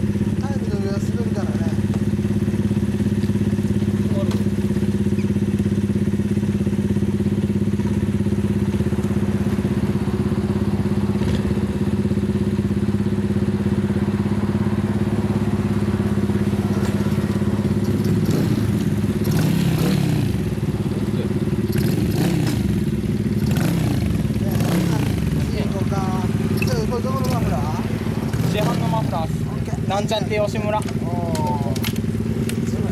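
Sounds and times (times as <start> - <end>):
minibike engine idling: 0.0 - 32.9.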